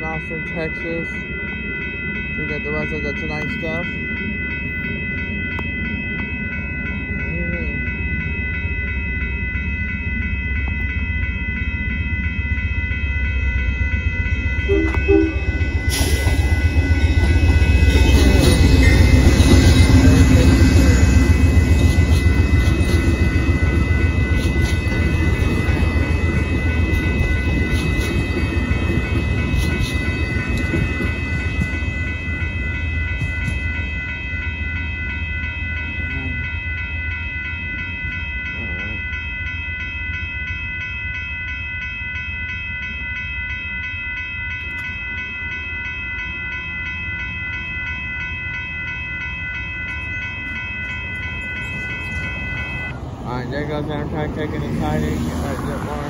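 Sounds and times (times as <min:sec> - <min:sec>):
passenger train rumbling past: 0:00.0 - 0:43.2, 0:44.6 - 0:56.0
crossing warning bell ringing: 0:00.0 - 0:56.0.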